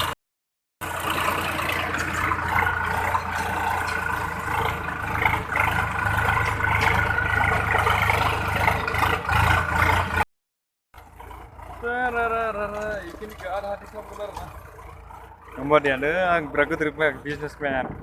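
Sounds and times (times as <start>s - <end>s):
tractor engine running: 0.8s - 10.3s, 10.9s - 18.0s.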